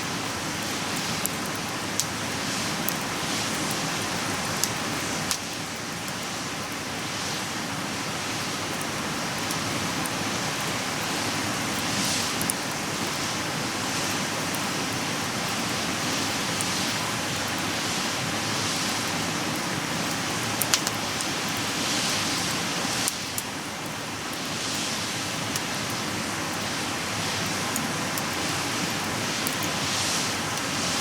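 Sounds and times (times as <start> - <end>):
campfire hissing and crackling: 0.0 - 31.0.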